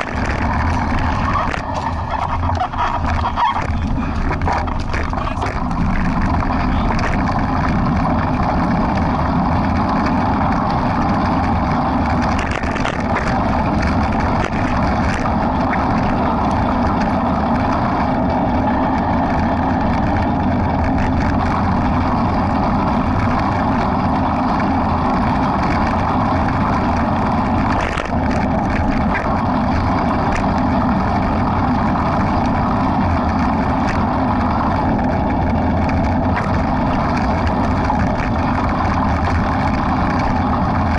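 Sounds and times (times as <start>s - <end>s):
wind rush over microphone: 0.0s - 40.9s.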